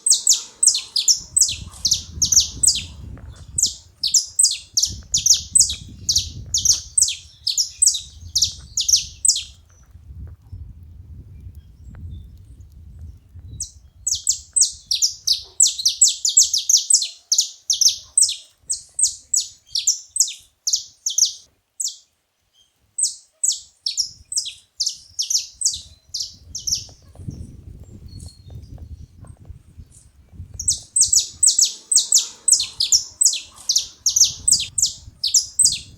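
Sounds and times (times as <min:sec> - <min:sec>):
finch singing: 0:00.0 - 0:09.6, 0:13.6 - 0:22.0, 0:23.0 - 0:29.1, 0:29.9 - 0:35.9.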